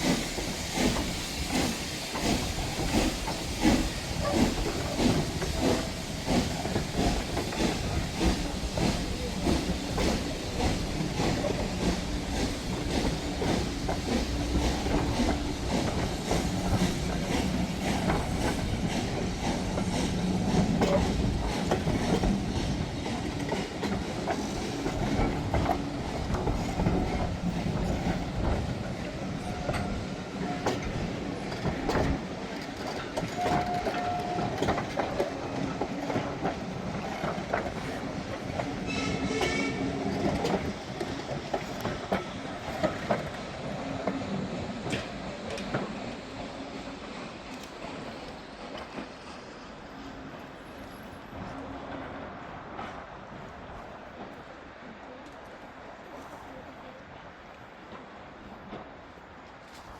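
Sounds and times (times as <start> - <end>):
train rumble: 0.0 - 59.9
train wheels clicking on rails: 0.0 - 59.9.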